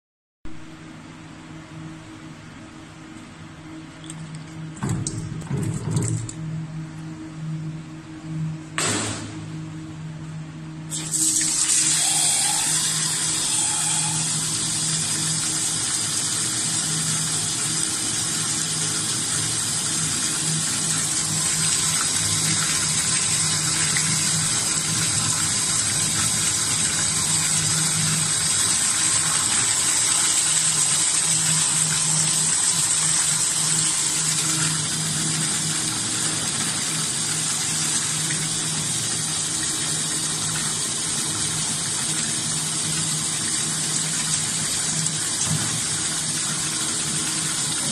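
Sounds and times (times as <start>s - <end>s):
tap water pouring into tub: 4.0s - 6.4s, 10.9s - 47.9s.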